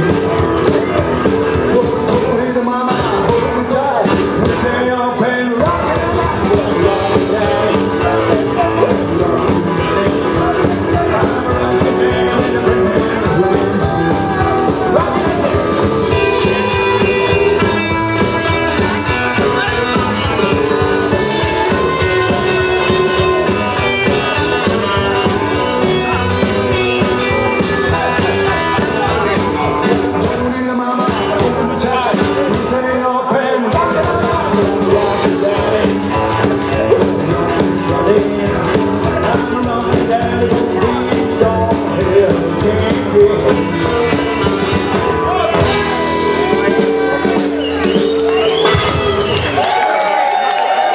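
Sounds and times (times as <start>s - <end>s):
person singing: 0.0s - 50.1s
live rock band playing: 0.0s - 50.9s.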